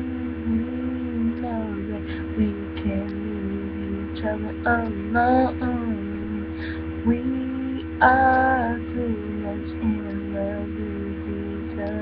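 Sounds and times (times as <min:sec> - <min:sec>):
electrical hum: 0:00.0 - 0:12.0
person singing unaccompanied: 0:00.0 - 0:12.0.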